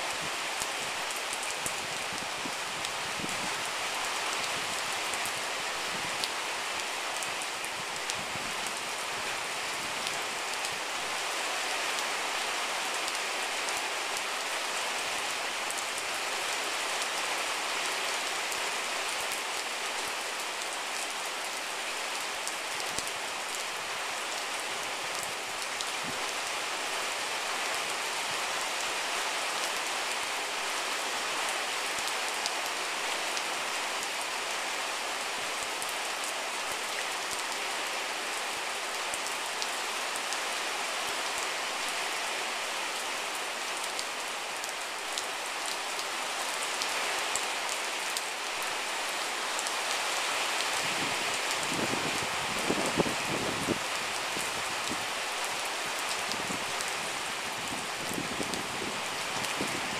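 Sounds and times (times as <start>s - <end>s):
steady rain on water and grass: 0.0s - 59.9s.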